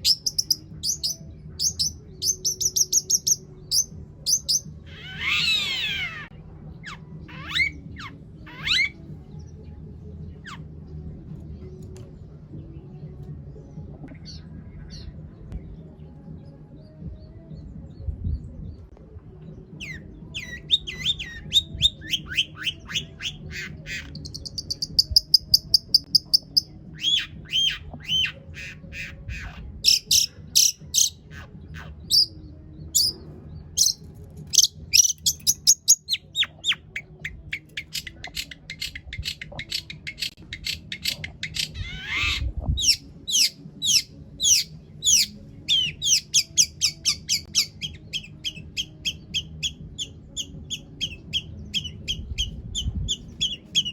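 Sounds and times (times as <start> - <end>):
shrike singing varied song: 0.0 - 10.8, 19.8 - 53.9.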